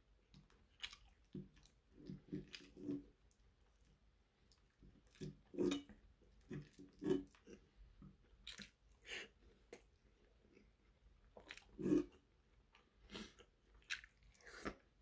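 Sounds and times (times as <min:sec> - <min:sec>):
chewing and wet mouth sounds: 0:00.1 - 0:15.0.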